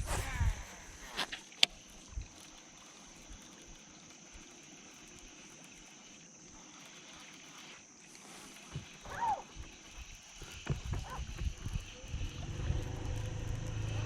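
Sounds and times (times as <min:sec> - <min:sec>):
background hiss: 0:00.0 - 0:14.0
thin high whine: 0:00.0 - 0:14.0.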